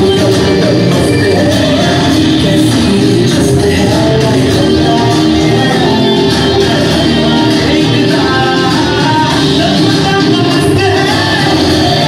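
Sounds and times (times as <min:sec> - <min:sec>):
singer over backing track: 0:00.0 - 0:12.0.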